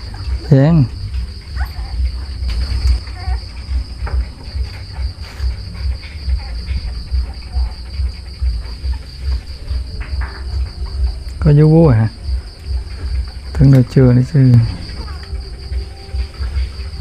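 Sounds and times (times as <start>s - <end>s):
insect chirping: 0.0s - 17.0s
puppies squeaking and suckling: 0.0s - 17.0s.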